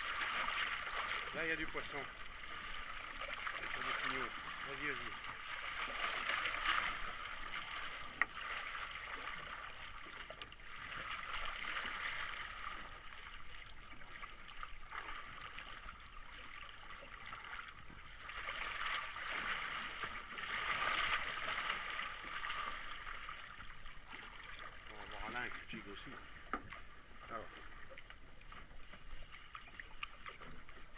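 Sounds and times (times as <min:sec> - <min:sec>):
water splashing against boat hull: 0:00.0 - 0:30.9.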